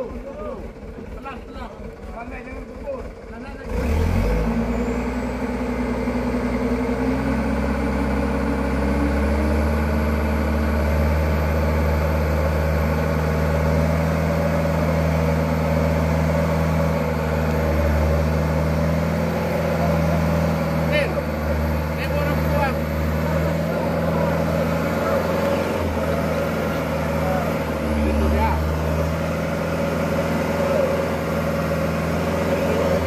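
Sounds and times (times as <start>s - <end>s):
diesel truck engine running hard: 0.0s - 33.0s.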